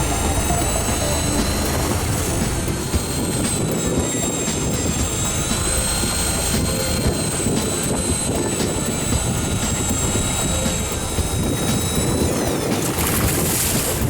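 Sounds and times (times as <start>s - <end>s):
boat motor rumble: 0.0s - 14.0s
rushing water noise: 0.0s - 14.0s
thin high whine: 0.0s - 14.0s.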